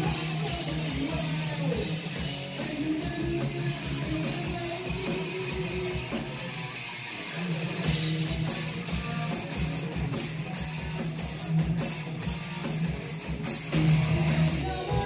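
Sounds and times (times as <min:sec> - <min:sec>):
heavy rock band playing: 0:00.0 - 0:15.0.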